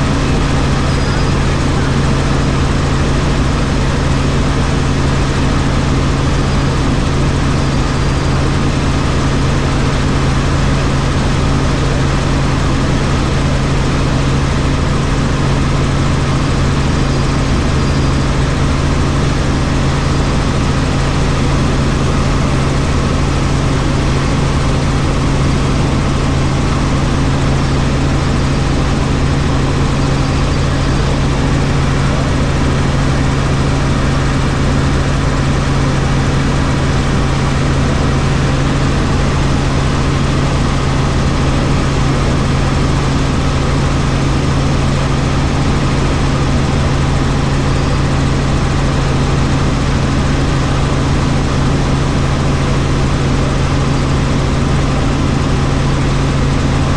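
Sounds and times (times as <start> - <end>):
helicopter engine and rotors: 0.0 - 56.9.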